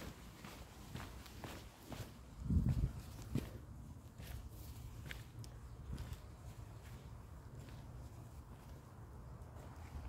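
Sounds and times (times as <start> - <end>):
footsteps on dirt trail: 0.0 - 10.0.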